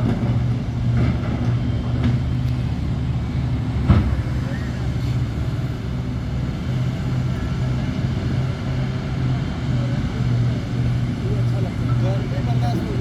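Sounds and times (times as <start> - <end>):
heavy diesel machinery droning: 0.0 - 13.0.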